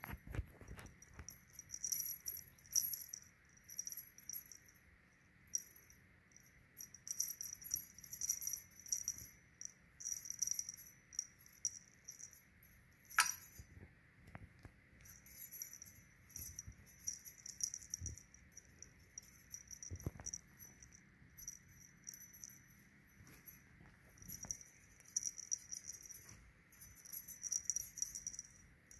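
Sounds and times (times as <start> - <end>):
feather wand toy rattling: 0.7 - 4.8, 5.5 - 13.7, 15.0 - 28.9.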